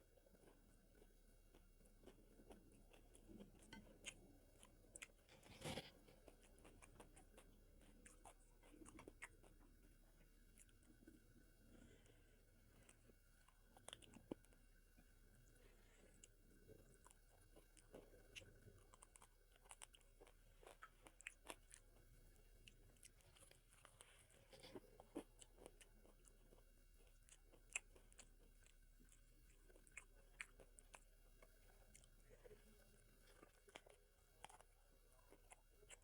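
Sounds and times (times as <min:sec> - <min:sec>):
chewing and biting: 0:00.2 - 0:14.7, 0:15.5 - 0:36.0.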